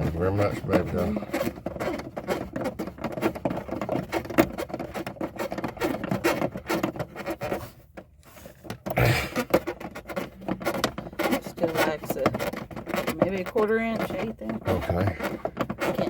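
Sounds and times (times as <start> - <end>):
scratching and tapping of tools: 0.0 - 16.0.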